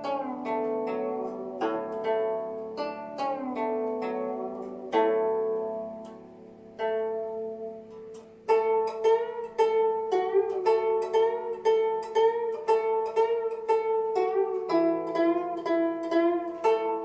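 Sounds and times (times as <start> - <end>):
plucked zither notes: 0.0 - 17.0.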